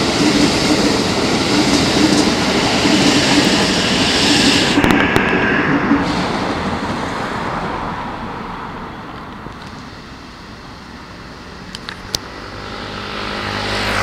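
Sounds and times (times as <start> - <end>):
electric train running on track: 0.0 - 14.0.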